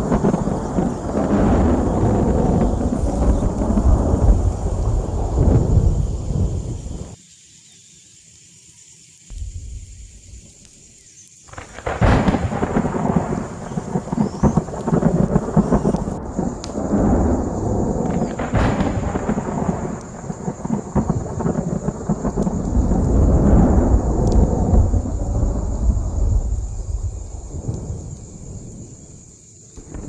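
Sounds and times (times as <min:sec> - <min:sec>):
thunder rumbling: 0:00.0 - 0:07.2, 0:09.3 - 0:30.0
steady rain: 0:00.0 - 0:30.0.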